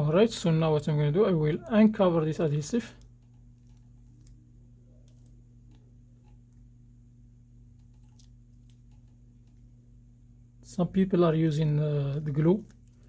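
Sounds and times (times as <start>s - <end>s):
film peeling ticks and rustles: 0.0s - 10.0s, 11.0s - 13.0s
low electrical hum: 0.0s - 13.0s.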